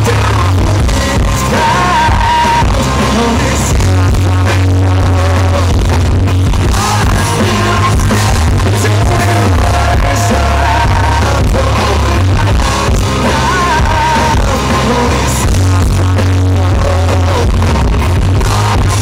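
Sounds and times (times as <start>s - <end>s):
man singing: 0.0s - 6.0s, 6.6s - 19.0s
rock band playing live: 0.0s - 19.0s.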